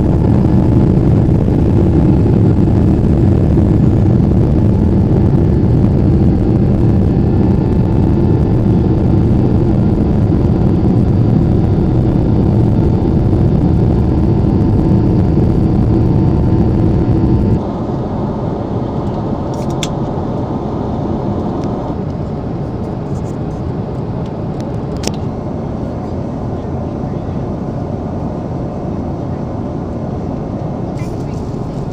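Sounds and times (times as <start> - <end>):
cabin hum: 0.0 - 31.9
jet engines rumbling in cabin: 0.0 - 31.9.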